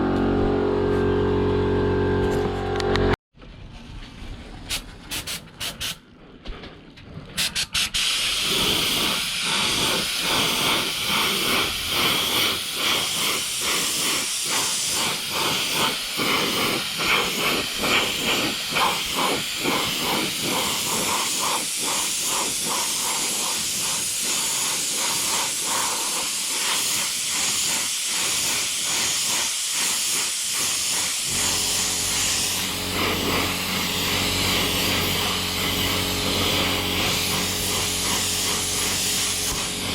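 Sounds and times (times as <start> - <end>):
spray gun hissing: 7.8 - 39.9.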